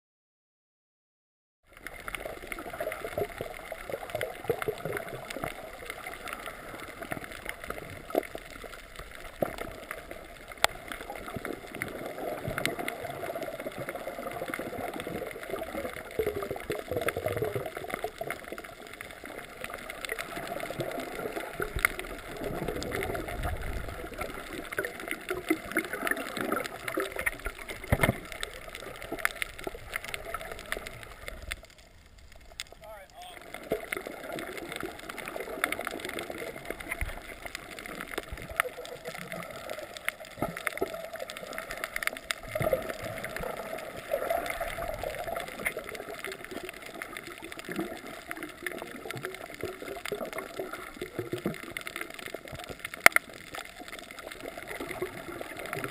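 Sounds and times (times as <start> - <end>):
low rumble of water movement: 1.6 - 55.9
small underwater clicks and crackles: 1.6 - 55.9
underwater swirling and gurgling: 1.7 - 55.9.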